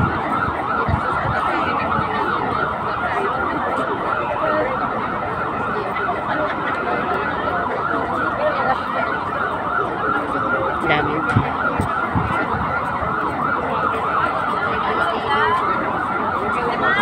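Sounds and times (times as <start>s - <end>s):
crowd murmur: 0.0s - 17.0s
siren yelping: 0.0s - 17.0s.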